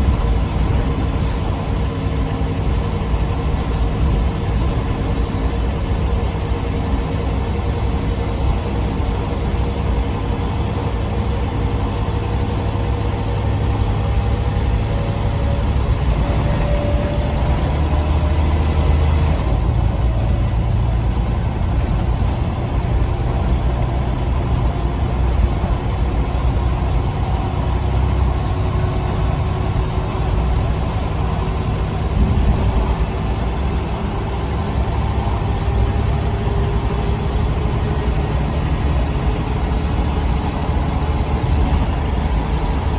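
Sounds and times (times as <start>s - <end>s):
bus engine running: 0.0s - 42.9s.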